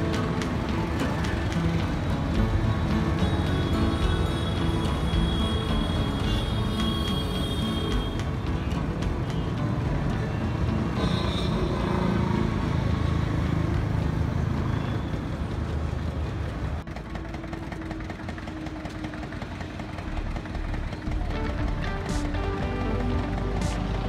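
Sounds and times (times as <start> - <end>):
highway traffic rumble: 0.0 - 24.0.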